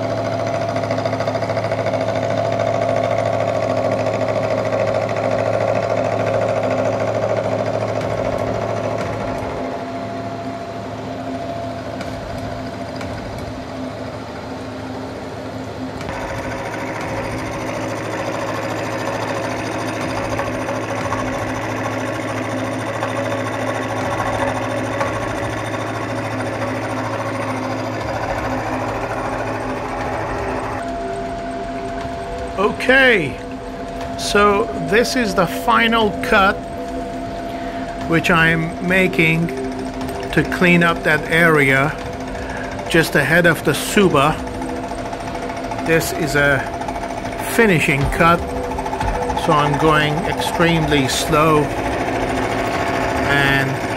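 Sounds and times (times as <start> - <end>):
milling spindle humming: 0.0 - 53.9.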